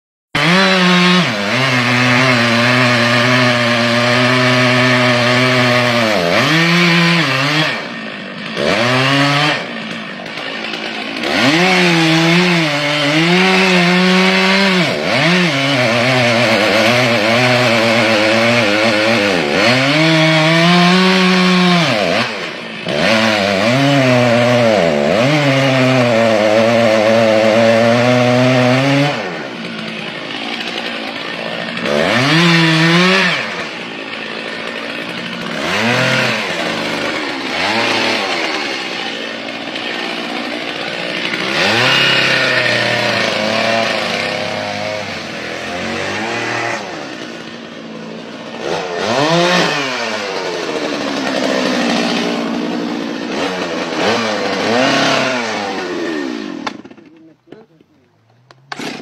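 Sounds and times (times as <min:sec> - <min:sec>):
chainsaw cutting wood: 0:00.4 - 0:59.0.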